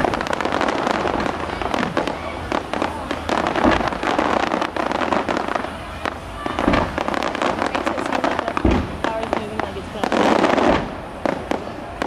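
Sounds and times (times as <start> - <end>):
fireworks crackling and popping: 0.0 - 12.0
fireworks heavy bangs: 0.0 - 12.0.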